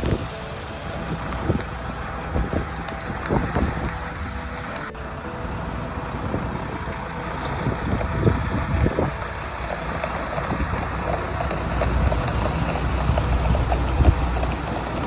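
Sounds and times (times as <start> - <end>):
vehicle engine running: 0.0 - 15.0
wind noise on microphone: 0.0 - 15.0.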